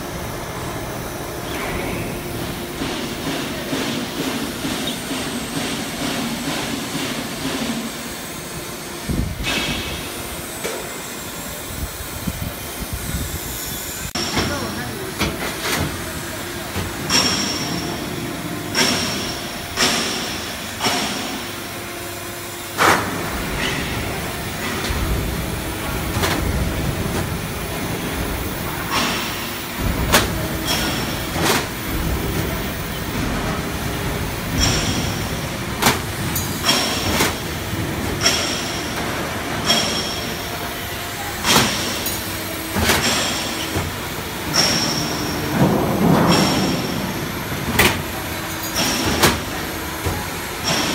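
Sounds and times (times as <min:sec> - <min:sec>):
steady machine noise: 0:00.0 - 0:50.9.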